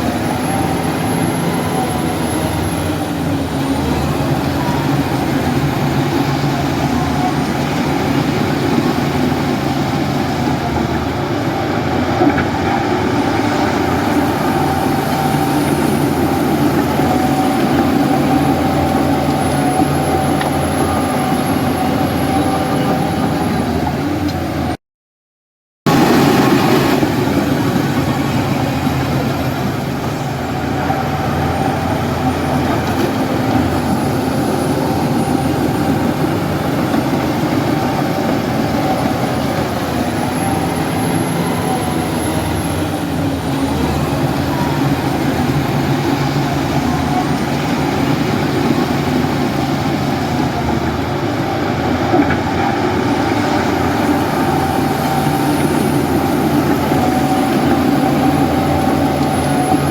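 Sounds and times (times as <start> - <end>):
heavy diesel engine running: 0.0 - 24.8, 25.9 - 59.9.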